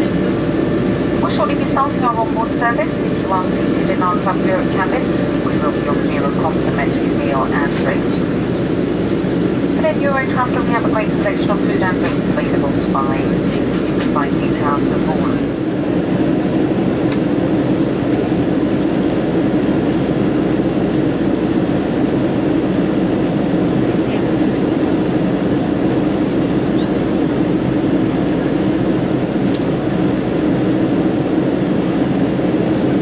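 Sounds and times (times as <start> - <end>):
airplane cabin drone: 0.0 - 33.0.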